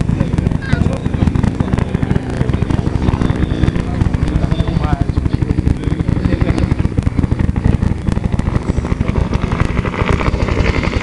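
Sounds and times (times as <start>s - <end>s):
helicopter rotor beating: 0.0s - 11.0s.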